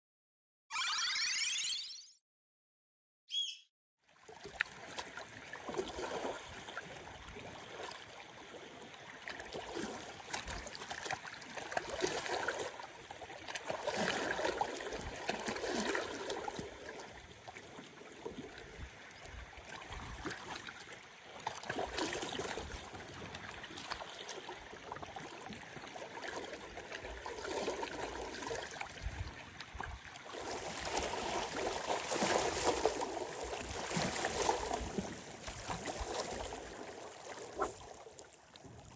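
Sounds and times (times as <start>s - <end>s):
small waves lapping at shore: 4.1s - 38.9s.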